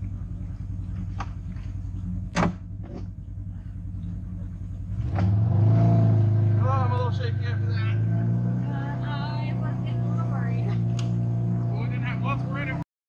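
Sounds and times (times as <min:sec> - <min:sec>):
engine running and revving: 0:00.0 - 0:12.8.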